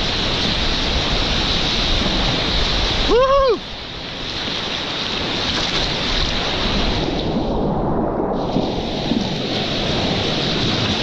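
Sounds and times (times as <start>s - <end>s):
whitewater rushing and splashing: 0.0s - 11.0s.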